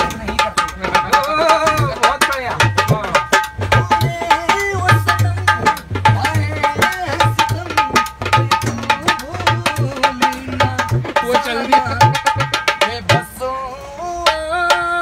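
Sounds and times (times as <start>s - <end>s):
hand drum folk rhythm: 0.0s - 15.0s.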